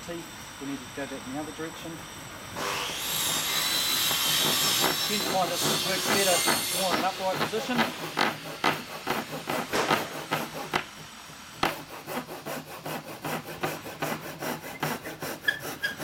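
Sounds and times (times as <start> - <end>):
pull saw cutting timber: 2.6 - 11.0, 11.6 - 16.0.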